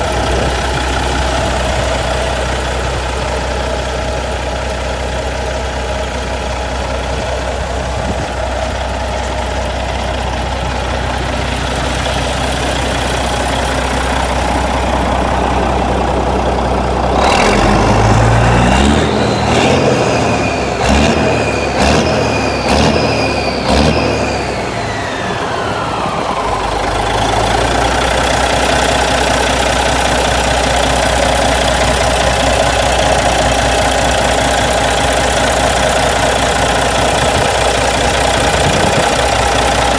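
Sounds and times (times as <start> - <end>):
diesel truck engine idling: 0.0 - 39.9
engine throttle blips: 0.0 - 39.9.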